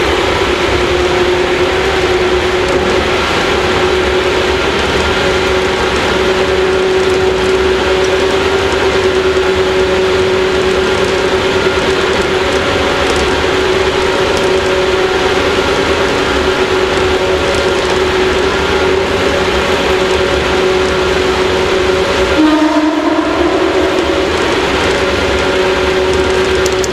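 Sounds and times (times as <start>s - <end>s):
electric train motor whine: 0.0s - 26.9s
wheels rumbling on rails: 0.0s - 26.9s.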